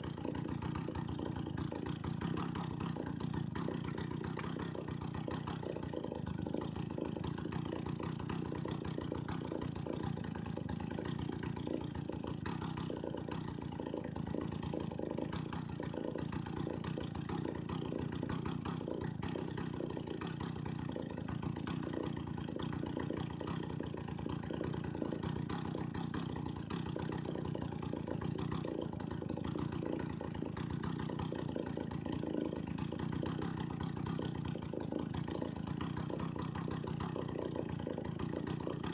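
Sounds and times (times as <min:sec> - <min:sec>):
chainsaw engine idling: 0:00.0 - 0:38.9.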